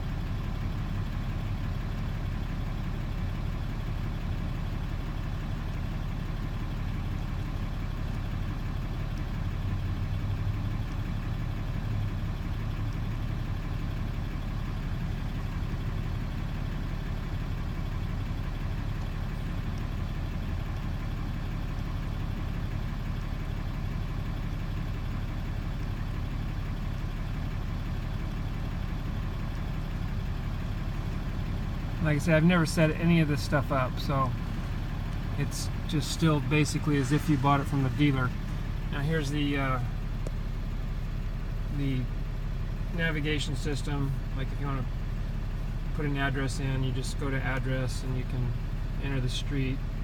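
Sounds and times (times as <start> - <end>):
truck engine idling: 0.0 - 50.0.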